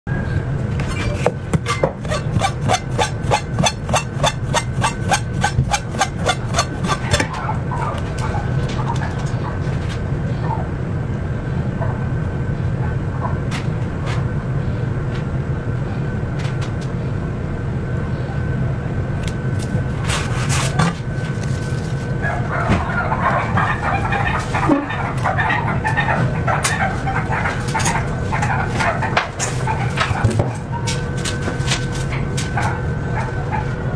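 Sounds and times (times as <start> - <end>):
steady hum: 0.1 - 33.9.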